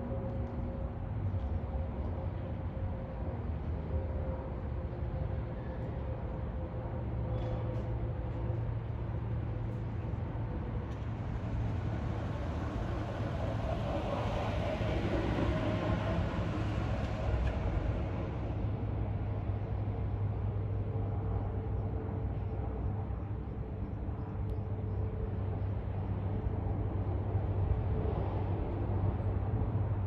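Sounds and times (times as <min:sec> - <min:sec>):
propeller plane passing overhead: 0:00.0 - 0:30.0.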